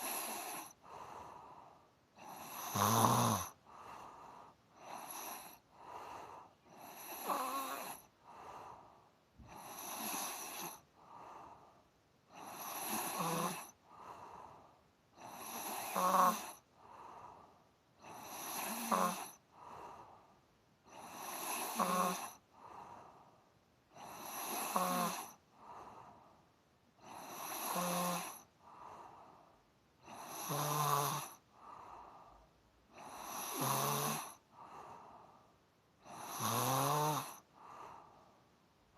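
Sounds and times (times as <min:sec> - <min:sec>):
snoring: 0:00.0 - 0:08.8, 0:09.4 - 0:11.6, 0:12.3 - 0:17.4, 0:18.0 - 0:20.2, 0:20.8 - 0:23.2, 0:23.9 - 0:26.1, 0:27.0 - 0:29.3, 0:30.0 - 0:32.3, 0:32.9 - 0:35.3, 0:36.0 - 0:38.1.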